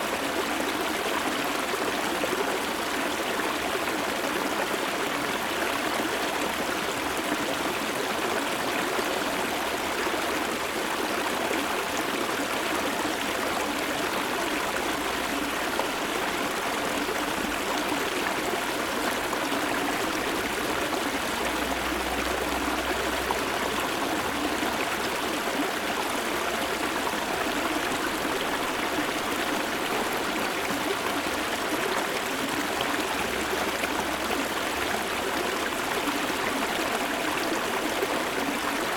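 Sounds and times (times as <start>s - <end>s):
shallow river water flowing: 0.0s - 38.9s.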